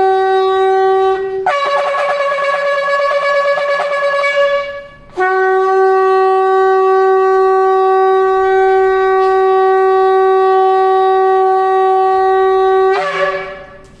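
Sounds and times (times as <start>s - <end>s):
shofar blast: 0.0s - 14.0s.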